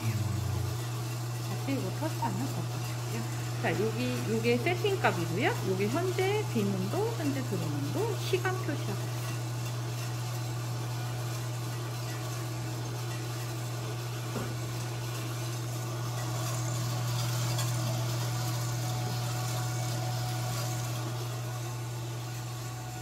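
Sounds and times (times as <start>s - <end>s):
coffee roaster motor hum: 0.0s - 23.0s.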